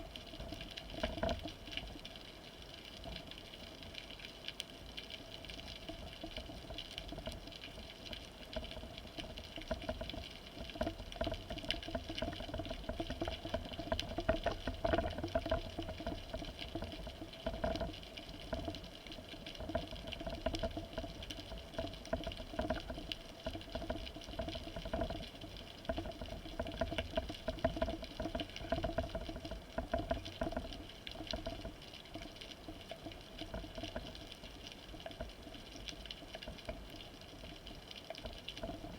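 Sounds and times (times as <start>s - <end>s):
faint crackling: 0.0s - 38.9s.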